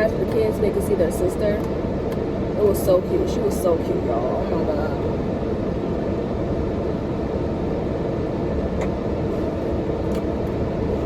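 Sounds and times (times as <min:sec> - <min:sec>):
car air conditioning blowing: 0:00.0 - 0:11.0.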